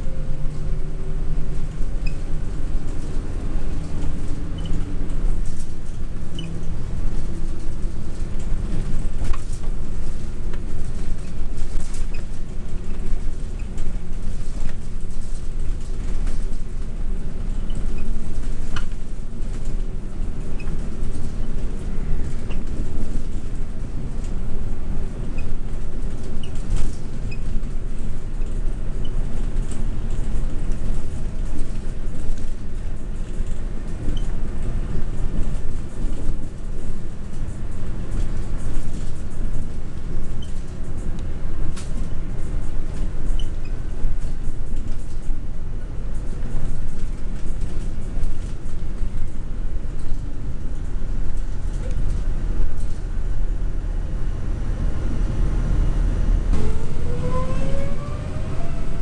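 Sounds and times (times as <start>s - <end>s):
bus engine and road rumble: 0.0s - 59.0s
body clicks and rattles: 1.8s - 53.1s.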